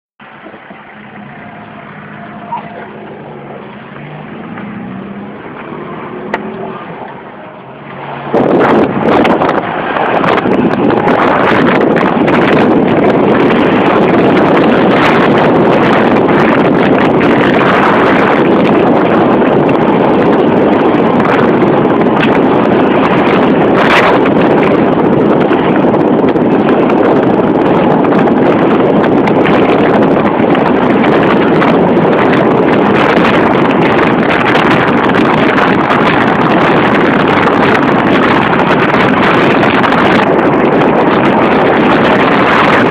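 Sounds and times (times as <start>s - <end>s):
car engine hum in cabin: 0.2s - 42.9s
wind noise on microphone: 0.2s - 42.9s.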